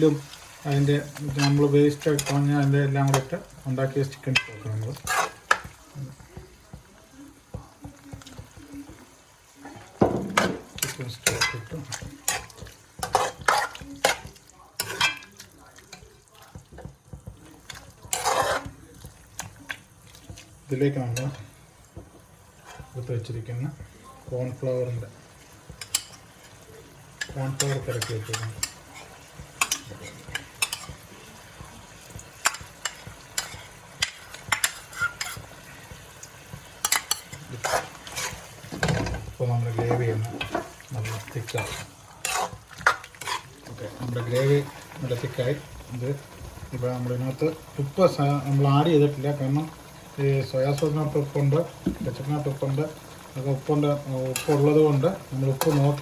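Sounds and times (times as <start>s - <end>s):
spoon scraping a pan: 0.0s - 56.0s
steady sizzle: 0.0s - 56.0s.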